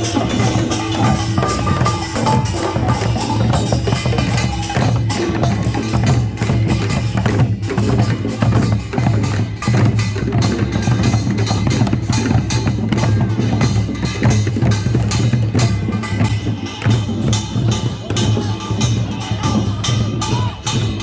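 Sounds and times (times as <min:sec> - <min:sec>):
drum and gong strikes: 0:00.0 - 0:21.0.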